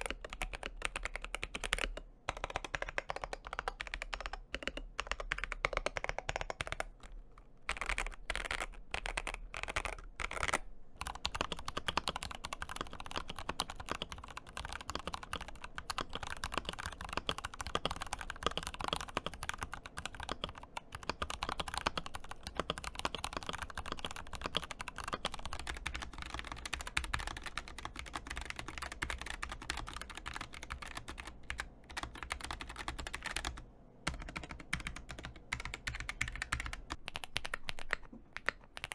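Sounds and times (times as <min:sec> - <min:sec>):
mechanical keyboard typing: 0:00.0 - 0:06.9, 0:07.7 - 0:38.9.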